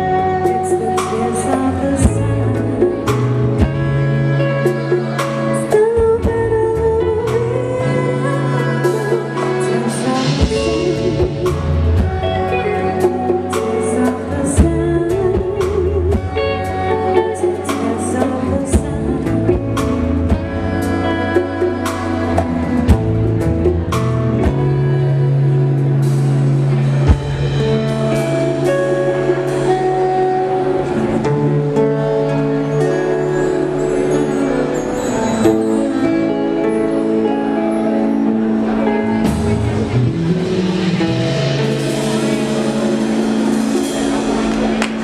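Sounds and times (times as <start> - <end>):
live band playing: 0.0 - 45.0
saxophone: 0.0 - 45.0.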